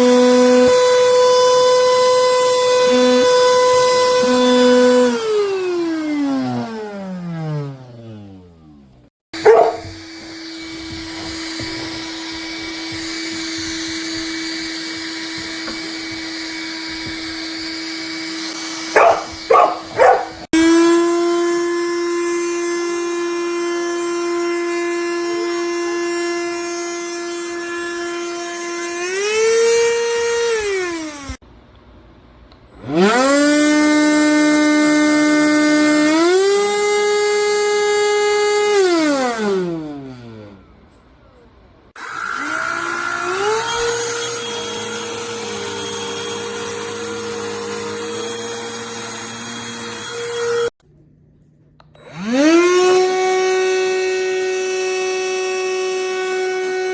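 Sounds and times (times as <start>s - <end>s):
handheld vacuum motor whining: 0.0s - 31.4s, 32.5s - 50.8s, 51.8s - 56.9s.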